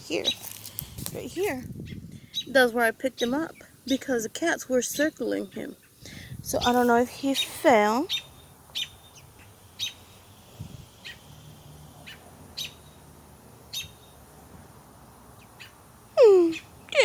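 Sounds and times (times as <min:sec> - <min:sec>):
robin chirping: 0:00.0 - 0:00.6, 0:01.3 - 0:14.3, 0:15.1 - 0:17.0.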